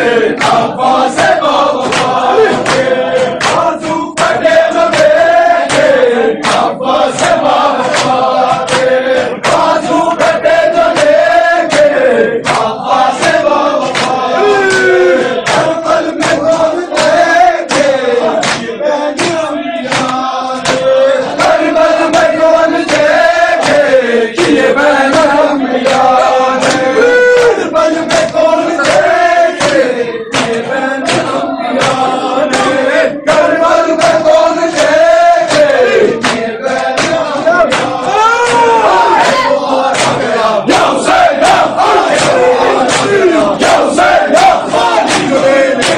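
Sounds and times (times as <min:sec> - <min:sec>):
men chanting together: 0:00.0 - 0:45.9
hands beating on chests: 0:00.4 - 0:45.9.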